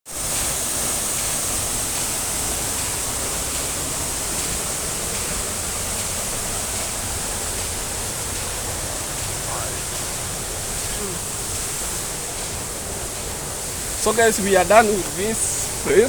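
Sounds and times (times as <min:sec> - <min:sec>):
waterfall roaring: 0:00.2 - 0:16.0.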